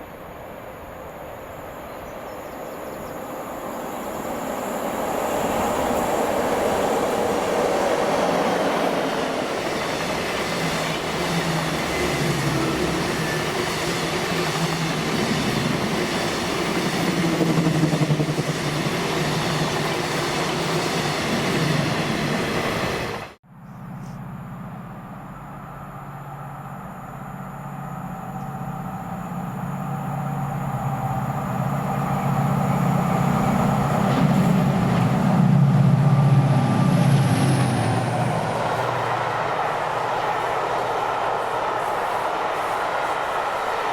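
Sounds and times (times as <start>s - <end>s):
train engine drone: 0.0s - 43.9s
train passing on rails: 0.0s - 43.9s.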